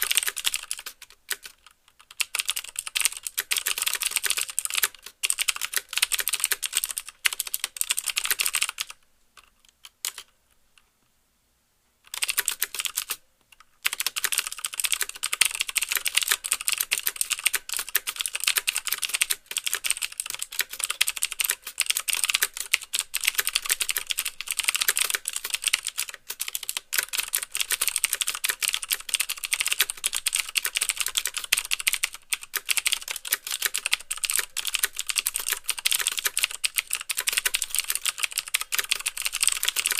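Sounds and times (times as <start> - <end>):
fast mechanical keyboard typing: 0.0 - 9.0, 9.8 - 10.3, 12.1 - 13.2, 13.8 - 39.9.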